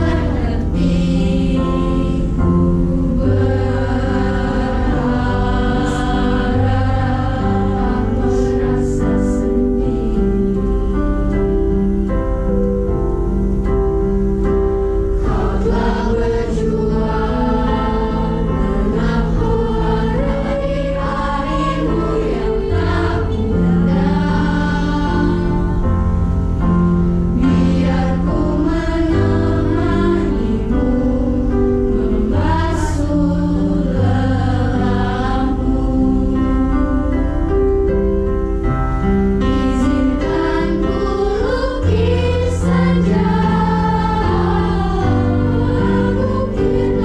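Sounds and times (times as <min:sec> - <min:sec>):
youth choir singing: 0:00.0 - 0:11.3, 0:15.2 - 0:26.2, 0:27.3 - 0:37.2, 0:39.5 - 0:47.0
electronic keyboard chords: 0:00.0 - 0:47.0.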